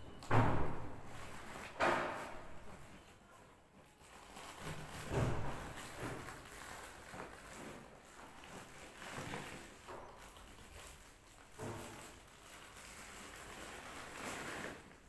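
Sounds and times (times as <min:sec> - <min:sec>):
plastic and paper rustling: 0:00.1 - 0:15.0.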